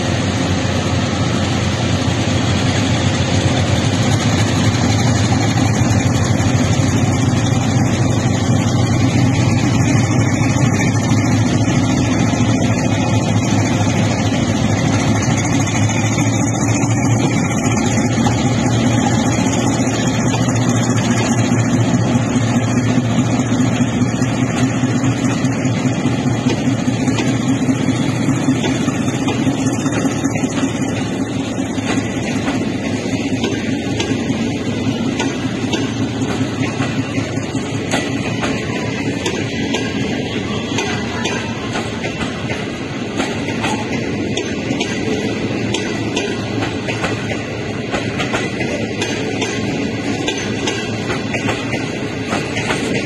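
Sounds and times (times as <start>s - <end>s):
locomotive engine working: 0.0s - 53.0s
train wheels rumbling on rails: 0.0s - 53.0s.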